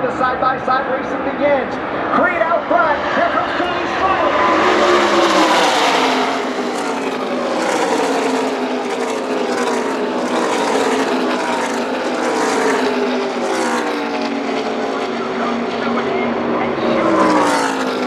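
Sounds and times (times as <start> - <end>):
race truck engines passing: 0.0 - 18.0.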